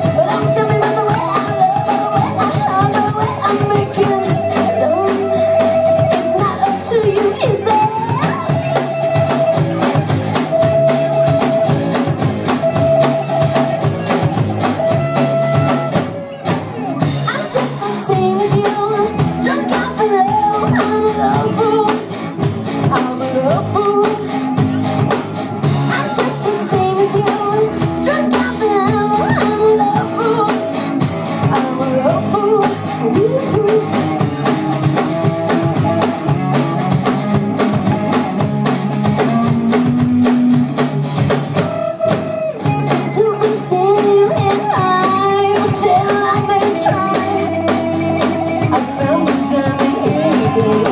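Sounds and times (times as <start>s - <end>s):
person singing: 0.0s - 14.3s, 14.9s - 40.9s, 42.7s - 50.9s
drum kit: 0.0s - 50.9s
electric guitar: 0.0s - 50.9s.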